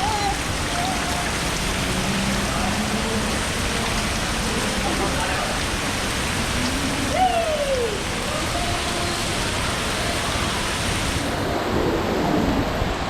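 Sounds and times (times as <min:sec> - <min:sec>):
water spraying and splashing: 0:00.0 - 0:13.0.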